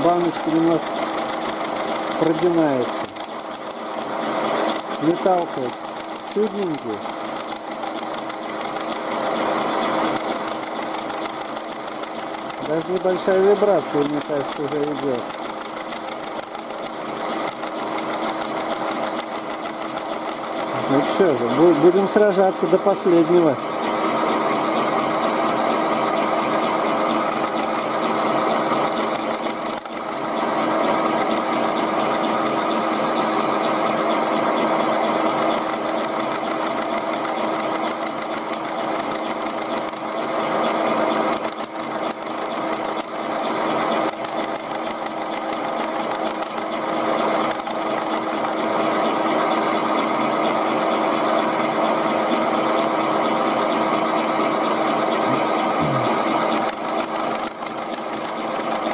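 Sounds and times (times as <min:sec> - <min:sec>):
milling machine hum: 0:00.0 - 0:58.9.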